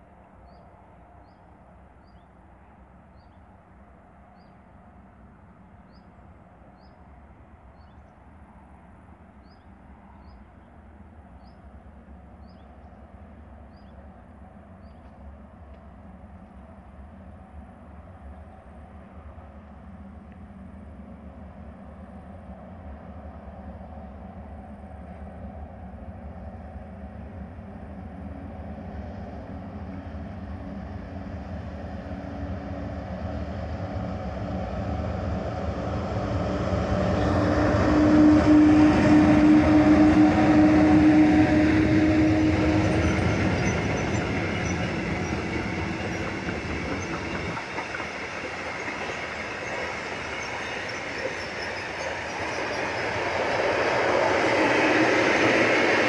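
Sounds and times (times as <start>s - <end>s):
electric locomotives passing: 0.0s - 56.0s.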